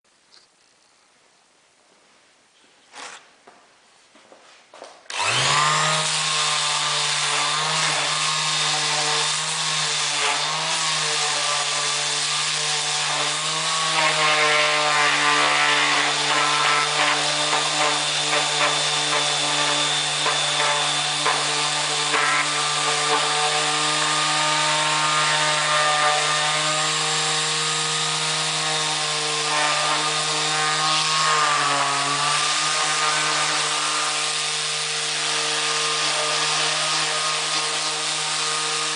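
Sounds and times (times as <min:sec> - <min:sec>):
electric sander running: 0:05.1 - 0:38.9
rasp of sanding: 0:05.2 - 0:38.9.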